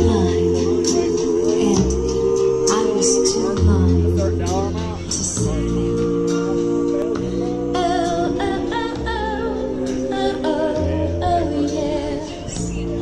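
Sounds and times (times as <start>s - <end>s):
song with vocals: 0.0s - 13.0s.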